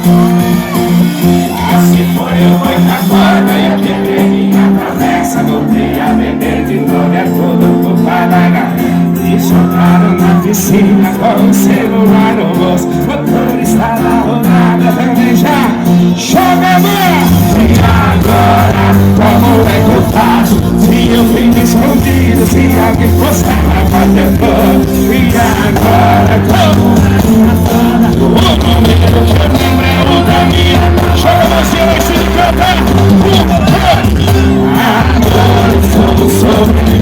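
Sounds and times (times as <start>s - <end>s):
heavy bass line: 0.0s - 37.0s
live band music with singer: 0.0s - 37.0s.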